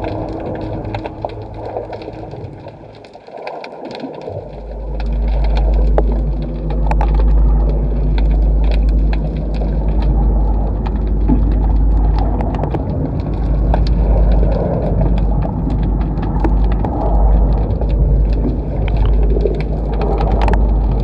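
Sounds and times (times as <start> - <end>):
muffled underwater rumble: 0.0 - 21.0
sharp clicks and crackles: 0.0 - 21.0.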